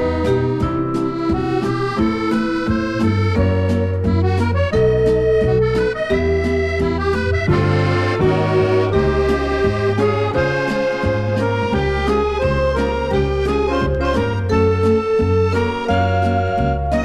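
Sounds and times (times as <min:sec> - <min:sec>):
instrumental music with beat: 0:00.0 - 0:17.0.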